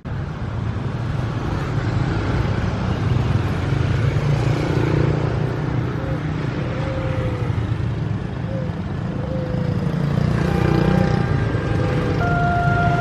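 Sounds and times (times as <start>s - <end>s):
cars and motorcycles passing: 0.0s - 13.0s.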